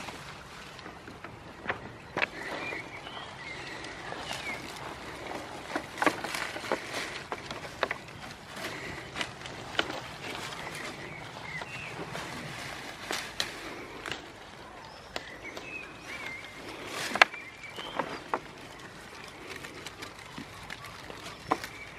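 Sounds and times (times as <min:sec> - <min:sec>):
goats tearing and chewing leaves: 0:00.0 - 0:21.9
hooves knocking on wooden pallets: 0:00.0 - 0:21.9.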